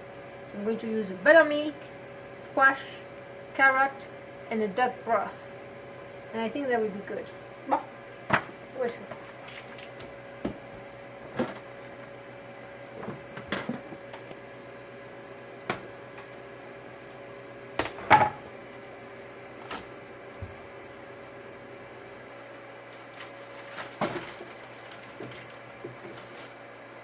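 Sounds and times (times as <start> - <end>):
appliance hum: 0.0 - 27.0.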